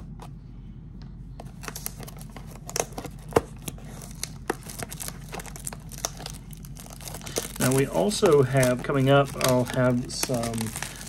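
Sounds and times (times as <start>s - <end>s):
wrapping crinkling and tearing: 1.6s - 11.0s.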